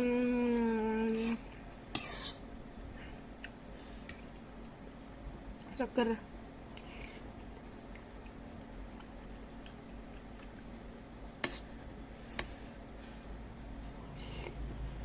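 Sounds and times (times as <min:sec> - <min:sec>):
steady low hum: 0:00.0 - 0:15.0
soft chewing: 0:00.2 - 0:14.6.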